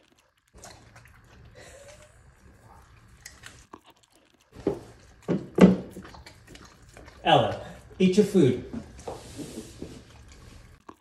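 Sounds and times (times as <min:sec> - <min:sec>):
dog chewing: 0:00.0 - 0:11.0.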